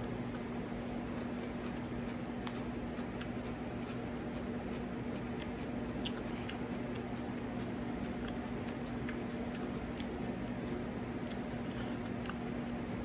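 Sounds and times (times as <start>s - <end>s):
low electrical hum: 0.0s - 13.0s
person chewing food: 0.0s - 13.0s.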